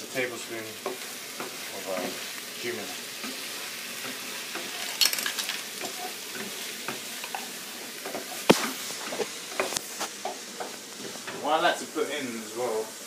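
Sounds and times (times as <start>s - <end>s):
curry sizzling in a frying pan: 0.0s - 13.0s
wooden spoon scraping and clicking: 0.8s - 11.4s.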